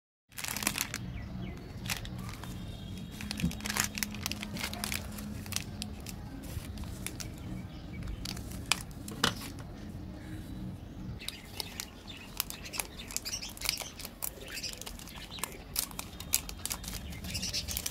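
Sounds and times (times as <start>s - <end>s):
candy wrappers crinkling: 0.3s - 9.6s, 11.2s - 17.9s
low steady hum: 0.4s - 17.9s.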